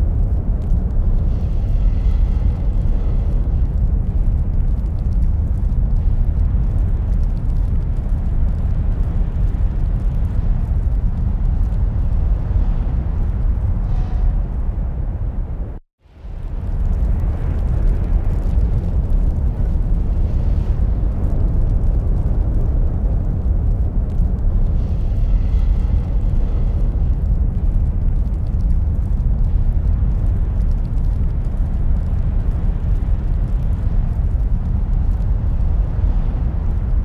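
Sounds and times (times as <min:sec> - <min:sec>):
loud low rumble: 0:00.0 - 0:37.0.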